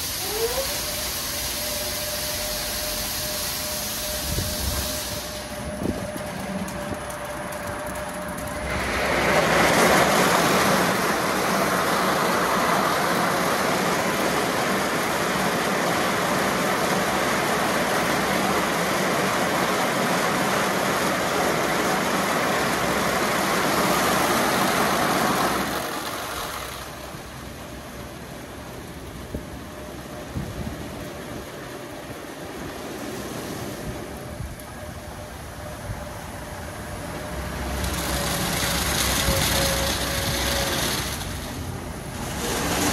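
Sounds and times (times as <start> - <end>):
car wash rushing hiss: 0.0 - 42.9.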